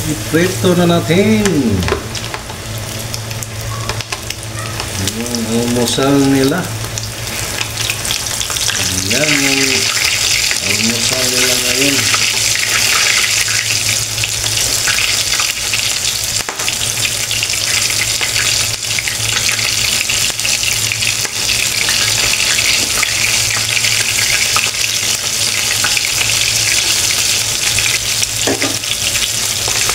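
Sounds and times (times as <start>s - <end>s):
chicken frying in hot oil: 0.0s - 29.9s
low steady hum: 0.0s - 29.9s.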